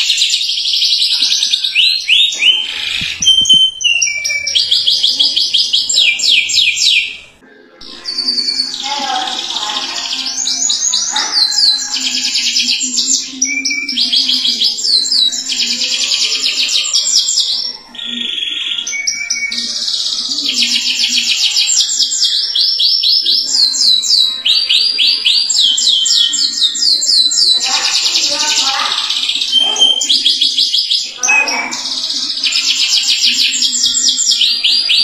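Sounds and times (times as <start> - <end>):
canary singing rolling trills: 0.0 - 35.0.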